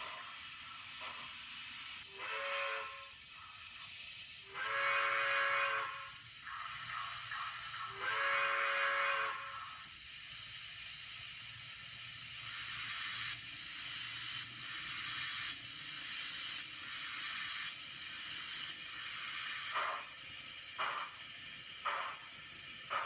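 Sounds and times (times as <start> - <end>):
steam locomotive hissing chuffs: 0.0 - 23.0.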